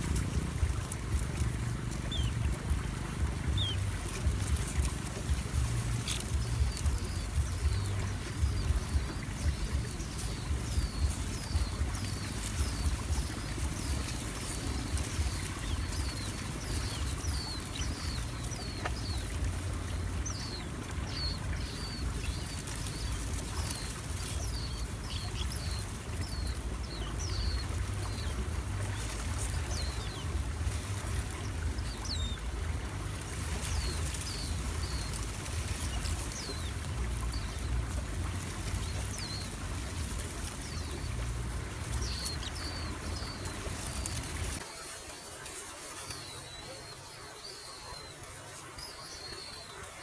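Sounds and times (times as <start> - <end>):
low rumble: 0.0 - 44.6
small birds chirping: 0.0 - 50.0.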